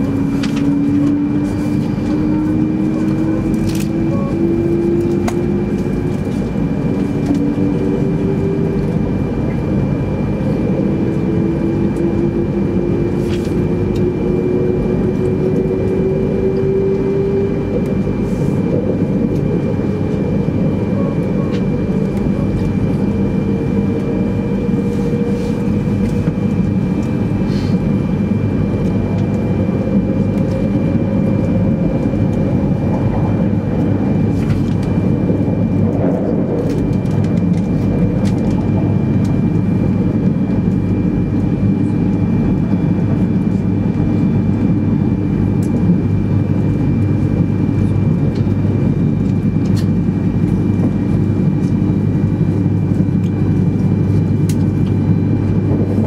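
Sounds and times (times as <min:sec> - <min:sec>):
train wheels and motors rumbling: 0:00.0 - 0:56.0.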